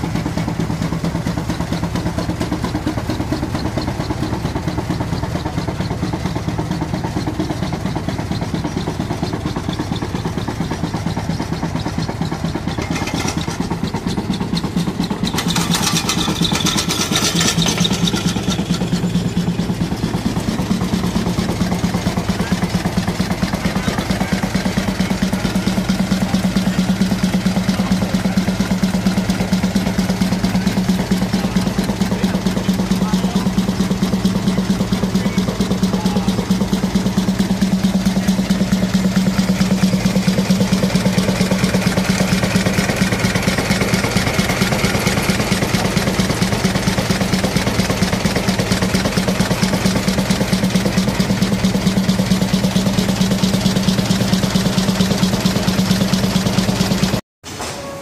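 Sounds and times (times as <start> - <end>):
steam traction engine running: 0.0 - 58.0.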